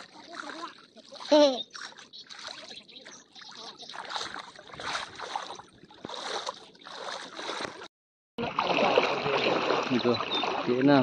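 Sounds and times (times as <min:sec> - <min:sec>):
creek water sloshing: 0:00.0 - 0:11.0.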